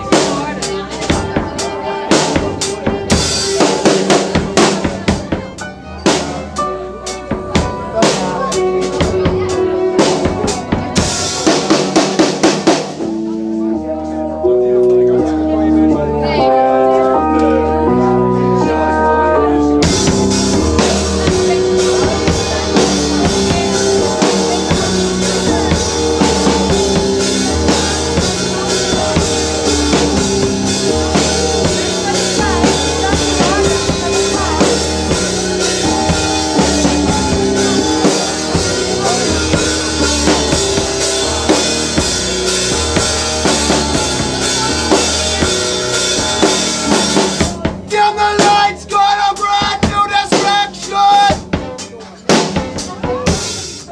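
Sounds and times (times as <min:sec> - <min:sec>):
drum kit beat: 0:00.0 - 0:16.0, 0:17.1 - 0:53.9
keyboard chords: 0:00.0 - 0:53.9
low bass line: 0:00.0 - 0:53.9.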